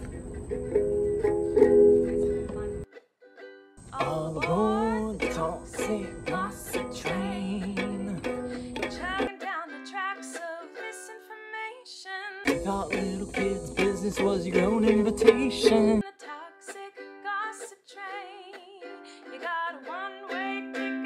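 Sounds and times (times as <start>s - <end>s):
ukulele strumming: 0.0s - 11.8s, 12.5s - 21.0s
person singing: 1.3s - 21.0s.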